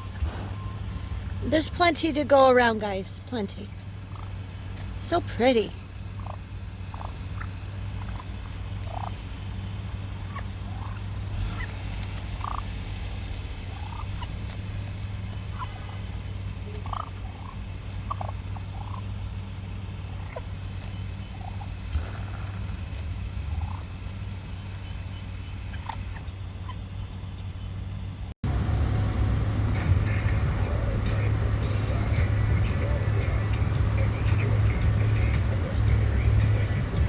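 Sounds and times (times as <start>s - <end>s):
steady low hum: 0.0s - 37.0s
turkeys calling: 0.0s - 37.0s.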